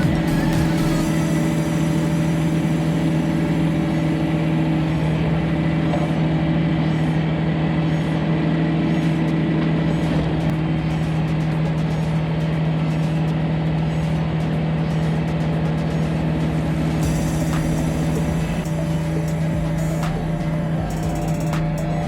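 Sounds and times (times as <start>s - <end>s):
tractor diesel engine drone: 0.0s - 22.0s.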